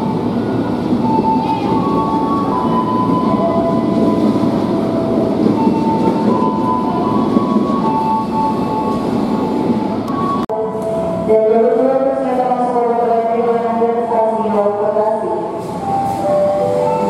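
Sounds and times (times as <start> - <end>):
electric train rumbling on tracks: 0.0 - 17.0.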